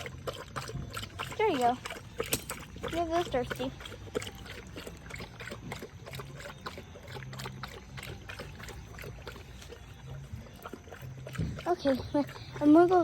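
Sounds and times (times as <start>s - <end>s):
dog lapping water: 0.0s - 13.0s.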